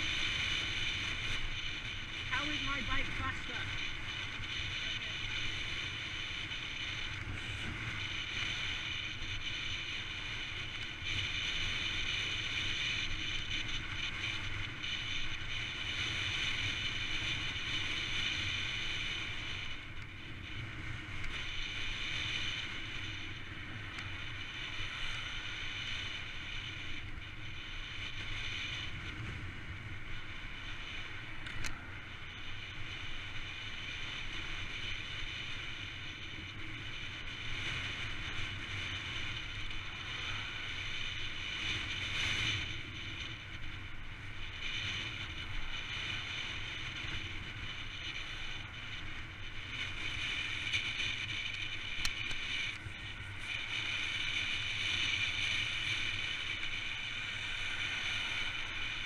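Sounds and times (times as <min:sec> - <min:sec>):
bike tyres rolling on wet tarmac: 0:00.0 - 0:59.0
wind rushing over camera: 0:00.0 - 0:59.0.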